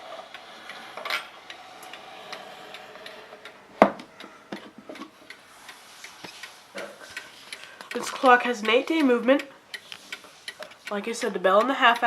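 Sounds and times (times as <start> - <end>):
clock scraping: 0.0 - 12.0
clock ticking: 0.0 - 12.0.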